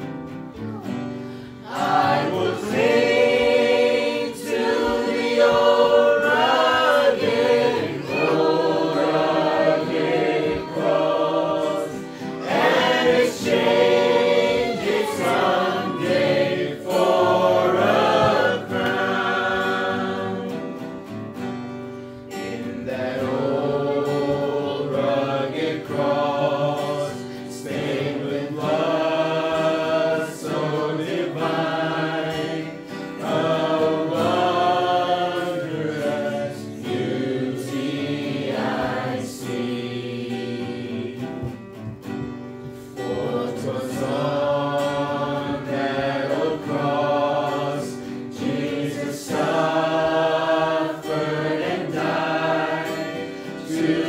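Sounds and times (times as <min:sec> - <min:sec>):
group singing in unison: 0:00.0 - 0:54.0
strummed acoustic guitar: 0:00.0 - 0:54.0.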